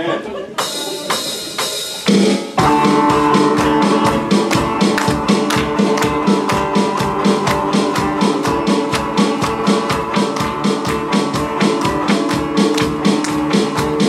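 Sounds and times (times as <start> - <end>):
band music with drums and guitars: 0.6 - 14.0.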